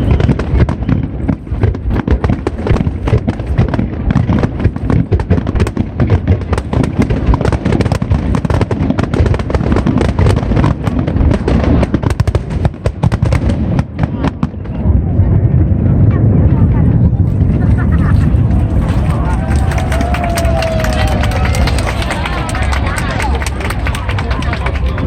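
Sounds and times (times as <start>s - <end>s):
fireworks booming and crackling: 0.0s - 25.0s.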